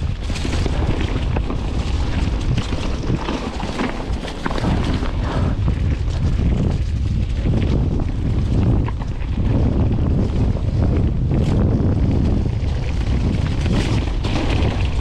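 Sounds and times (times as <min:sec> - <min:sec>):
bike rattling over rough ground: 0:00.0 - 0:15.0
wind rumble on microphone: 0:00.0 - 0:15.0.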